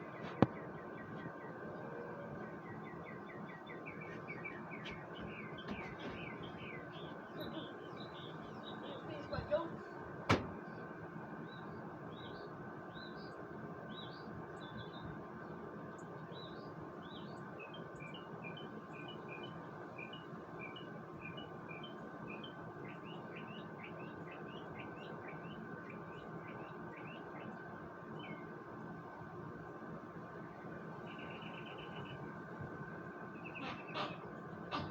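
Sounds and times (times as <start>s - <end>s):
small birds chirping: 0.0s - 29.0s, 30.4s - 34.9s
steady background hum: 0.0s - 34.9s.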